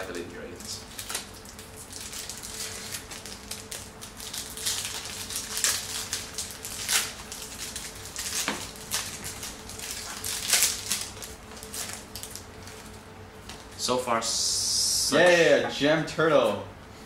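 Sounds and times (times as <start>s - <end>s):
foil wrappers and cards crinkling: 0.0s - 13.9s
faint steady hum: 0.0s - 17.0s.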